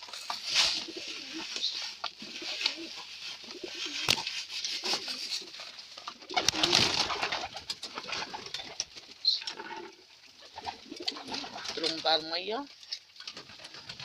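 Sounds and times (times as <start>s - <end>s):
pigeons cooing: 0.6s - 12.0s.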